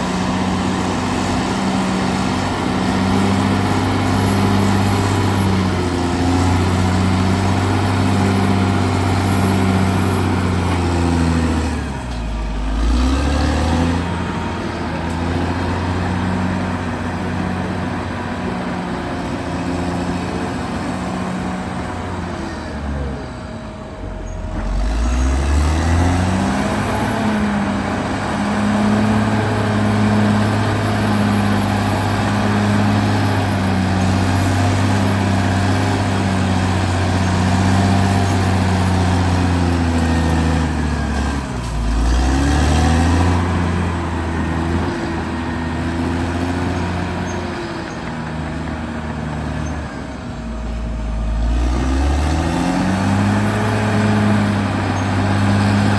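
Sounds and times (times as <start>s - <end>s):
bulldozer diesel engine revving: 0.0s - 55.9s.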